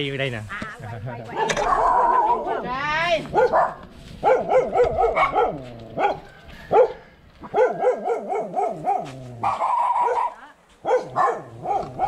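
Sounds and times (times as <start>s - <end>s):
dogs barking: 1.3s - 12.0s.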